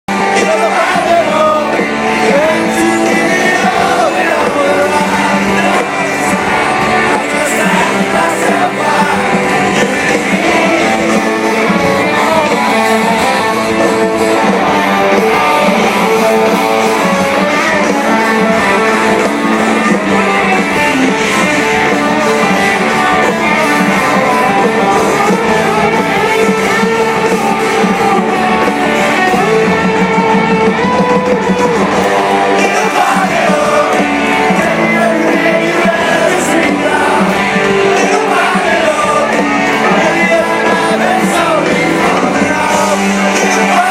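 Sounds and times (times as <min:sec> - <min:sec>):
live rock band playing: 0:00.1 - 0:43.9
person singing: 0:00.1 - 0:43.9.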